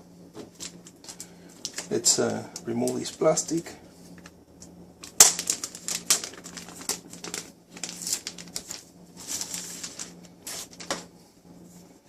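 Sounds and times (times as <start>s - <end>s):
plastic wrap crinkling: 0.5s - 4.4s, 5.0s - 11.1s.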